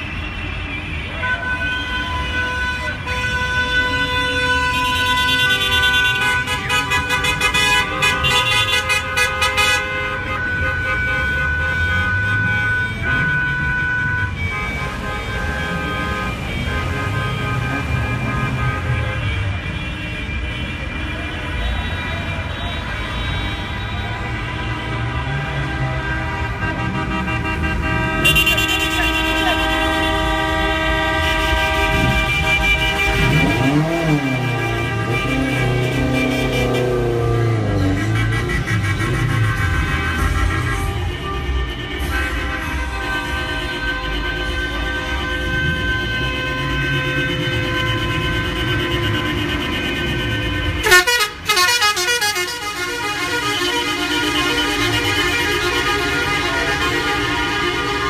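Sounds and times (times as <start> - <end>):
car horns honking: 0.0 - 58.0
engine and traffic rumble: 0.0 - 58.0.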